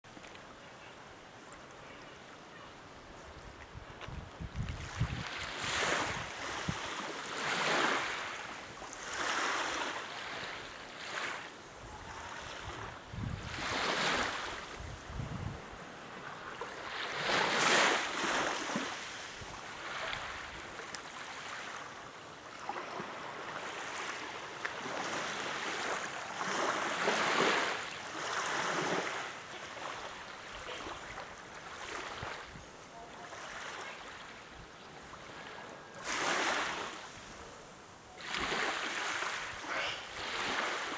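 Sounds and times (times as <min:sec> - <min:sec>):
small sea waves lapping: 0:04.6 - 0:40.9.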